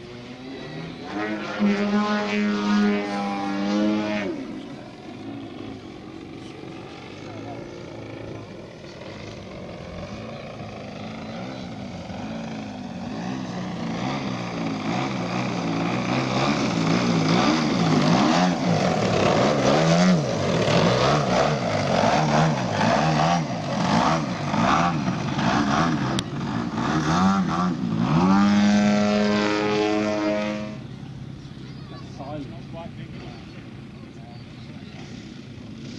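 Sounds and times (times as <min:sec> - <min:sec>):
model plane engine and propeller: 0:00.0 - 0:35.9.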